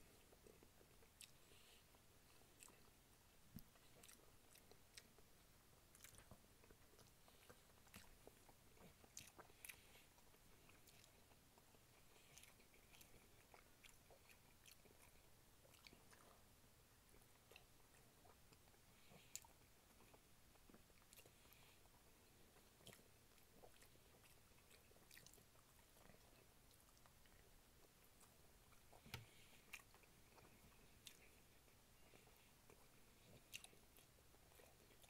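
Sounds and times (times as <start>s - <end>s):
person chewing: 0.1s - 3.0s, 3.6s - 16.4s, 17.1s - 35.0s.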